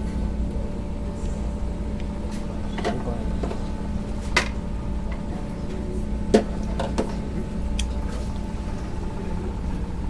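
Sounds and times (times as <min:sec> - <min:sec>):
ferry engine hum and rumble: 0:00.0 - 0:10.0.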